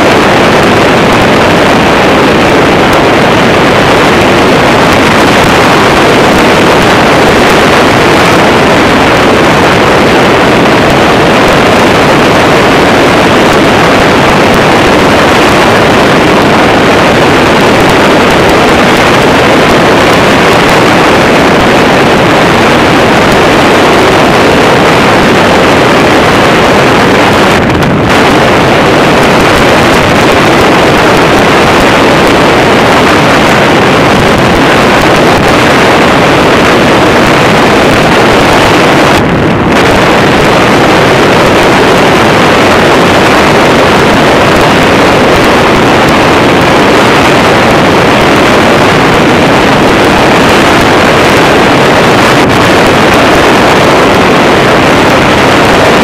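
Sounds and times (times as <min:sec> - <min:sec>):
microlight engine and propeller: 0:00.0 - 0:56.0
wind rush on microphone: 0:00.0 - 0:56.0.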